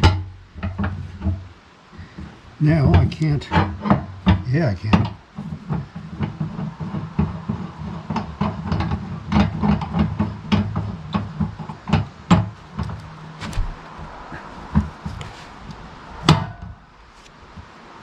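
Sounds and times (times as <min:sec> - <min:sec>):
log knocking and clunking: 0:00.0 - 0:18.0.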